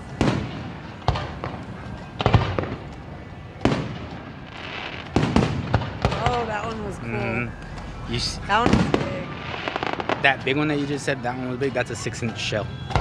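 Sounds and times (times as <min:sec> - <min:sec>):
firework shells booming: 0:00.0 - 0:10.9, 0:12.8 - 0:13.0.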